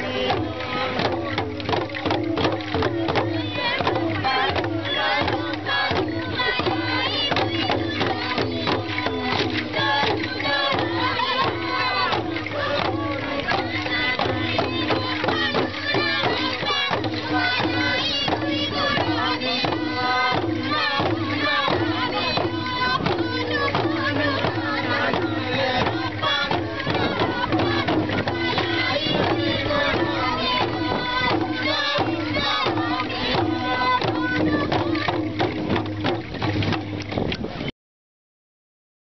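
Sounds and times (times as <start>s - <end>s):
group of voices singing: 0.0s - 36.9s
hand drums beating: 0.0s - 37.7s.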